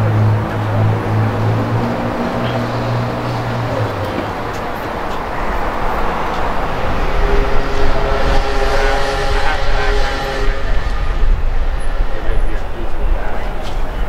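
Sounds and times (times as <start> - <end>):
city traffic rumble: 0.0 - 14.0
sustained multi-pitch tone: 0.0 - 14.0.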